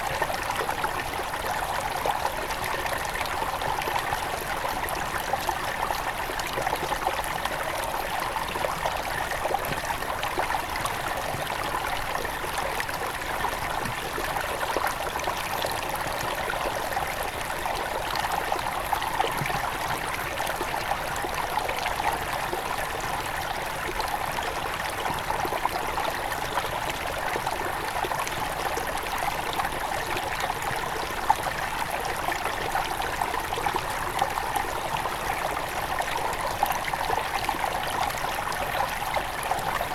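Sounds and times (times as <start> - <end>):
river trickling over stones: 0.0 - 39.9.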